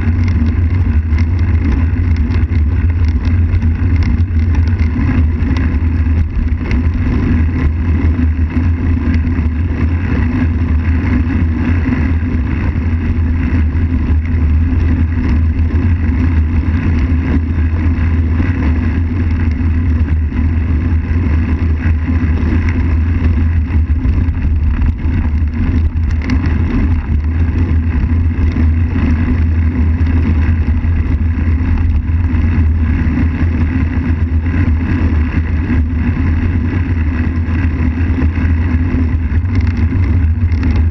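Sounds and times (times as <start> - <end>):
tyres on asphalt: 0.0 - 40.9
wind rumble: 0.0 - 40.9.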